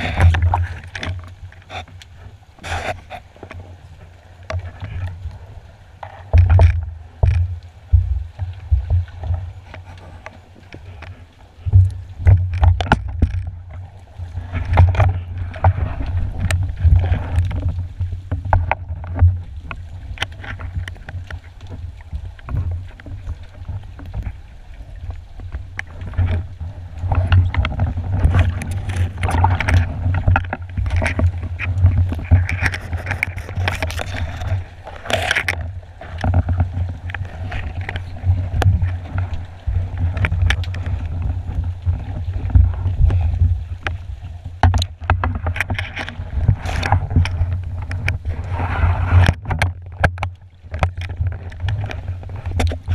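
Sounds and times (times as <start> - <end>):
muffled underwater water rumble: 0.0 - 52.9.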